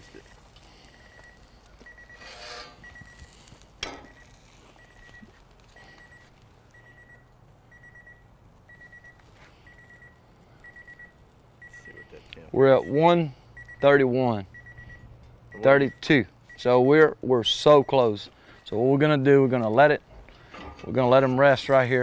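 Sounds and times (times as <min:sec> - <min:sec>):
electronic alarm beeping: 0:00.1 - 0:03.3, 0:03.9 - 0:18.7.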